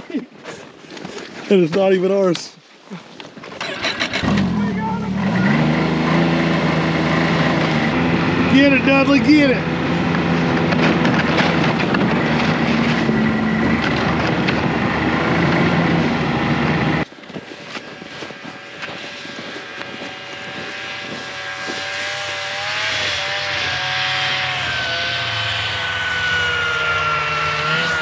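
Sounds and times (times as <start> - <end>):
approaching snowmobile engine: 3.6 - 28.0
snowmobile engine running close: 3.6 - 28.0.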